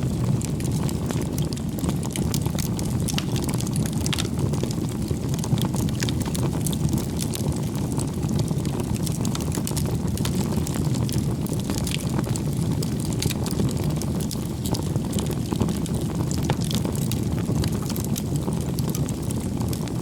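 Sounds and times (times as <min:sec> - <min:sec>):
low rumble of flames: 0:00.0 - 0:20.0
wood crackling and popping: 0:00.0 - 0:20.0.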